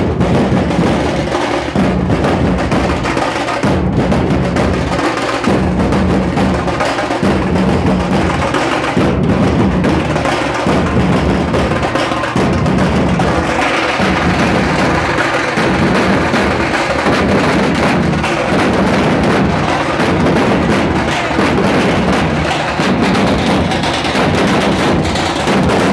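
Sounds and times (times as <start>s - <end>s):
barrel drums beaten with sticks: 0.0s - 25.9s
tasha drums: 0.0s - 25.9s.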